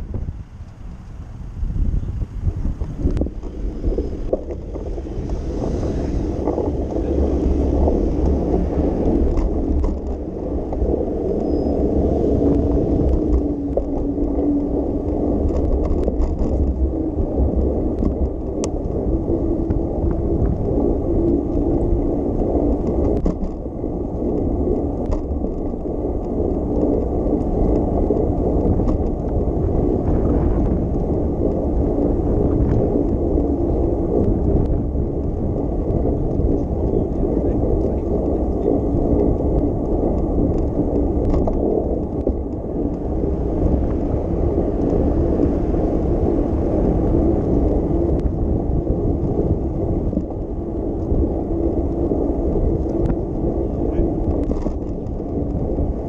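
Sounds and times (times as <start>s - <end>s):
bicycle tyres rumbling on road: 0.0s - 56.0s
wind buffeting microphone: 0.0s - 56.0s
faint clicks and rattles: 6.4s - 56.0s.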